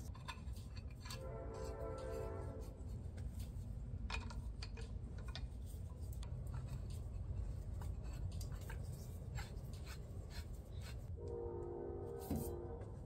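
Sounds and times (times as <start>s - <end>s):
pipe wrench clicks and scrapes: 0.0s - 11.1s.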